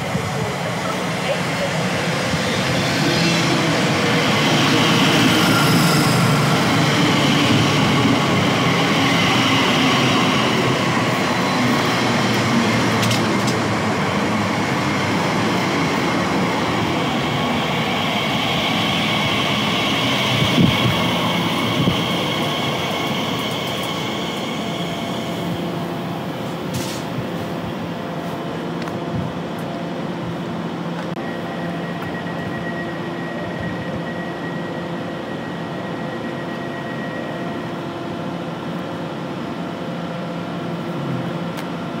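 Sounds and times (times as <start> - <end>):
train wheels rushing on rail: 0.0 - 42.0.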